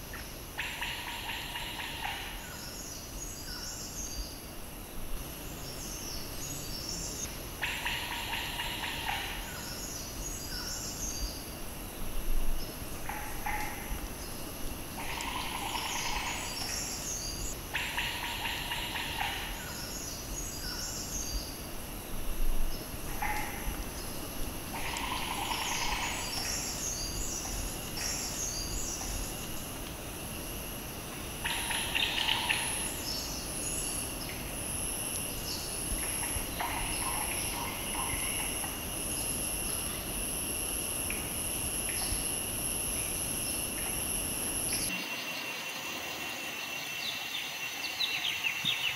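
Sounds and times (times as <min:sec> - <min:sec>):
insects buzzing and chirping: 0:00.0 - 0:48.9.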